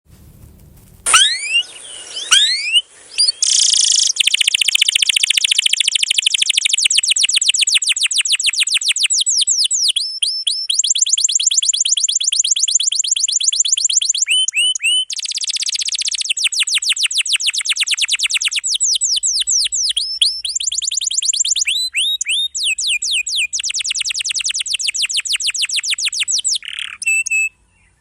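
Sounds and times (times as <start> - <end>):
canary singing: 1.1 - 28.0.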